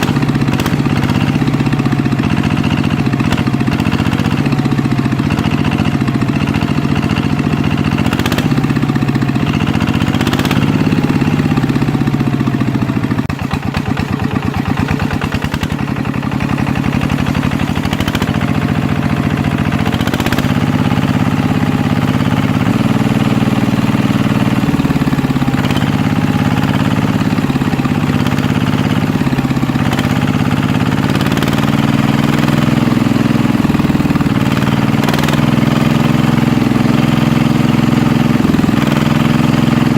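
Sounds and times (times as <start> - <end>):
engine idling and chugging: 0.0 - 39.9.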